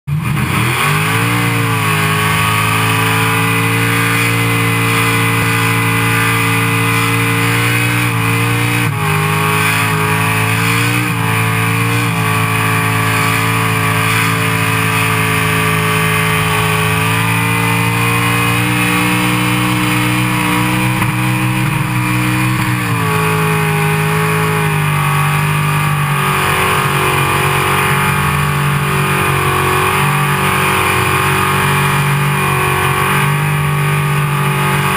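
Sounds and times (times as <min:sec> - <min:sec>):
car engine at high revs: 0:00.1 - 0:34.9.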